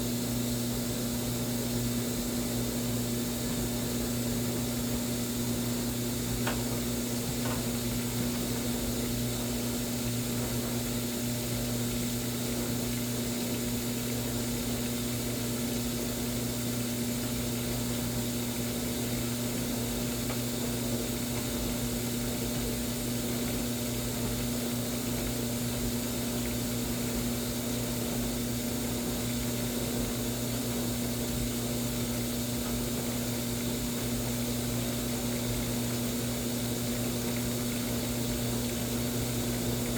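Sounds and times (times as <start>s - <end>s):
washing machine hum and hiss: 0.0s - 39.9s.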